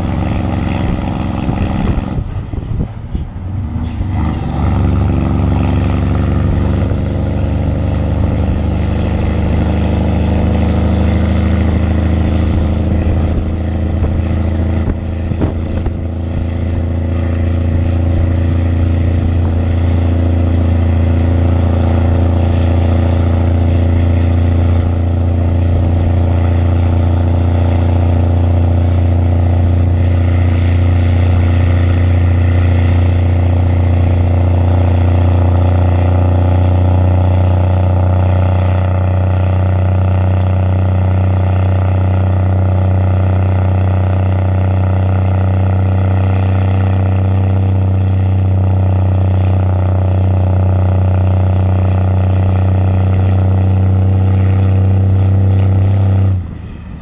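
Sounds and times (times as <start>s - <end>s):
truck diesel engine running hard: 0.0s - 57.0s.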